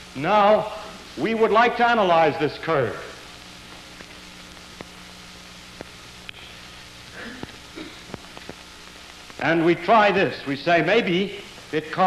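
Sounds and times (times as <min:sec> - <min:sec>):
faint hum: 0:00.0 - 0:12.0
film soundtrack hiss: 0:00.0 - 0:12.0.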